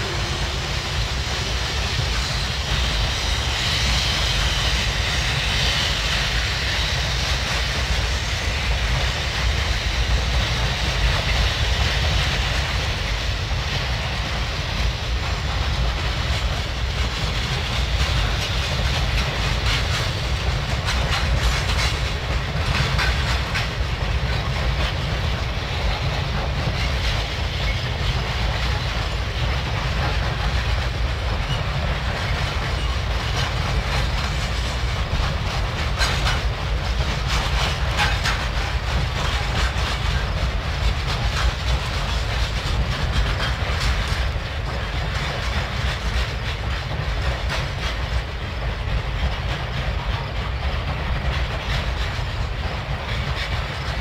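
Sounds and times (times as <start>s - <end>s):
steady train rumble: 0.0s - 54.0s
train wheels clattering over joints: 0.0s - 54.0s.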